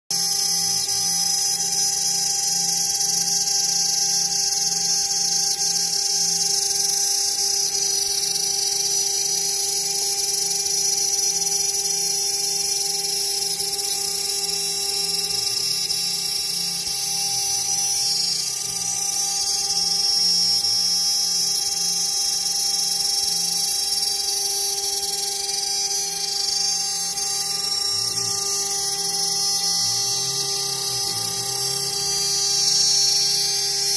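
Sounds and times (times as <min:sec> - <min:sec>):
milling spindle whining: 0:00.1 - 0:33.9.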